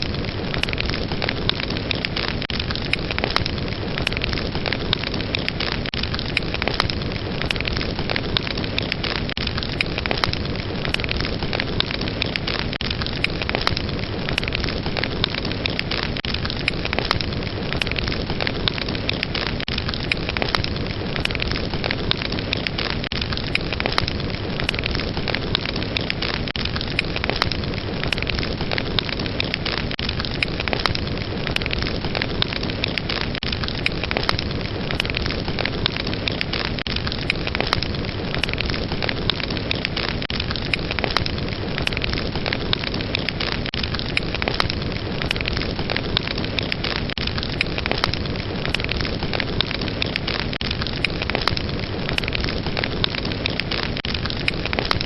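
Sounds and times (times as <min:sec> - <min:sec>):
fire pops and crackles: 0:00.0 - 0:55.0.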